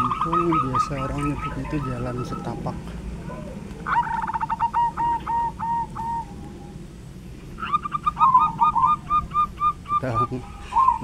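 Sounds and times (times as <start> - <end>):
bird calling repeated notes: 0.0 - 6.8, 7.5 - 11.0.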